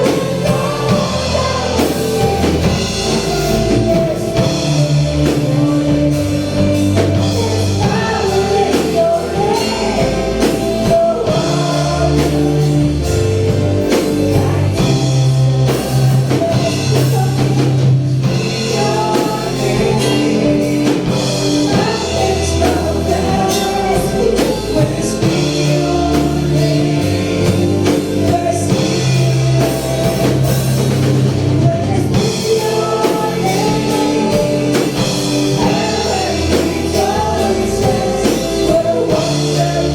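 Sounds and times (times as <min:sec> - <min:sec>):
worship song with band: 0:00.0 - 0:39.9.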